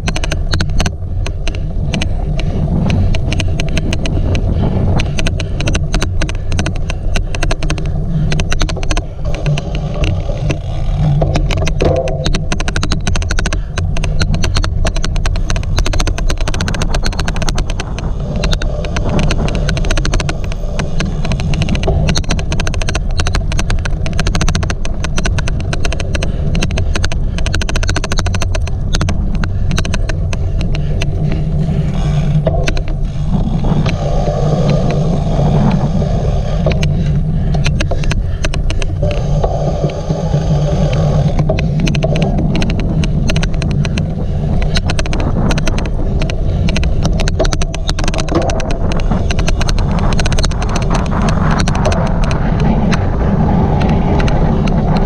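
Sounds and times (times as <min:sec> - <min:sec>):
bicycle rumbling over rough ground: 0:00.0 - 0:55.0
sharp clicking: 0:00.0 - 0:55.0.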